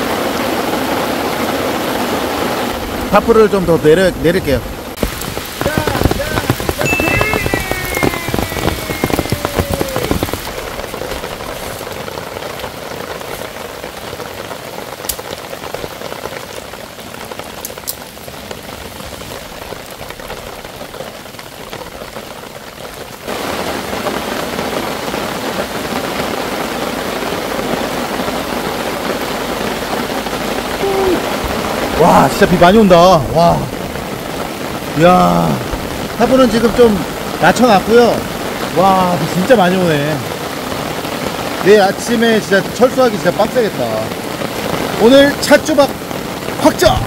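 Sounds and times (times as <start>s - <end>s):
heavy rain on a tarp: 0.0s - 47.0s.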